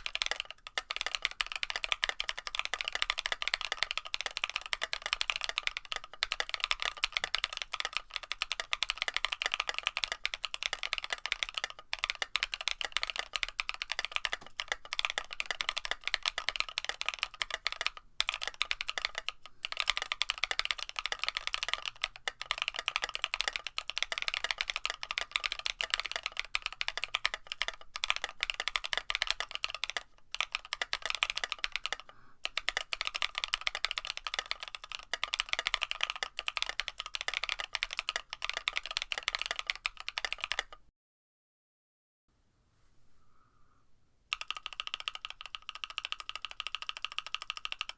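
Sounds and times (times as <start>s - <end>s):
fast mechanical keyboard typing: 0.0s - 40.8s, 44.3s - 47.9s.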